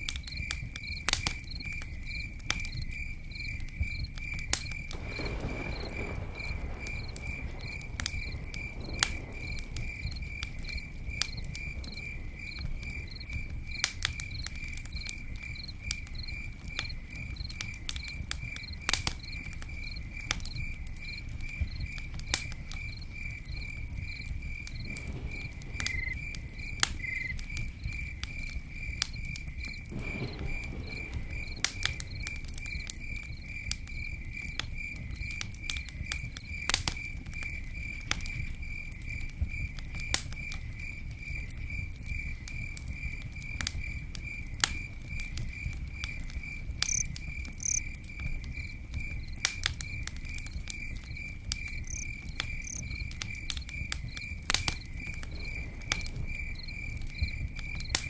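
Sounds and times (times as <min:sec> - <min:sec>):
campfire crackling and popping: 0:00.0 - 0:58.0
cricket chirping: 0:00.0 - 0:58.0.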